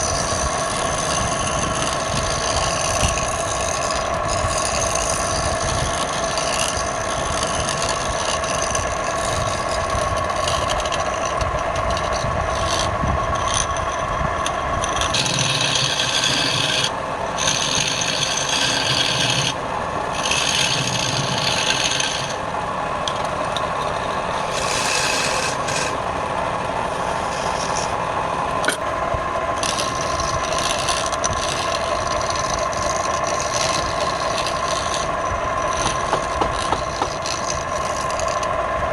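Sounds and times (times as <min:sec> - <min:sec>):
tool rasping on spinning wood: 0:00.0 - 0:38.9
wood lathe motor hum: 0:00.0 - 0:38.9.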